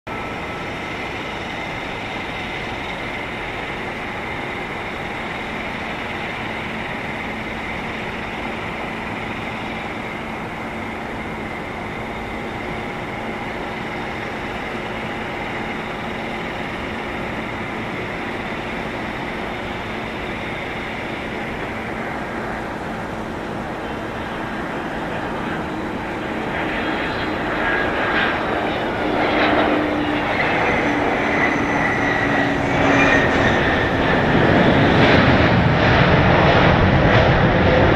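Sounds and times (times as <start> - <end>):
jet plane rumble and whine: 0.1 - 37.9.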